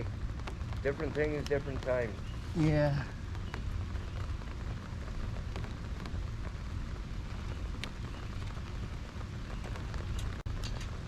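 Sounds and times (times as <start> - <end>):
light drizzle hiss: 0.0 - 11.0.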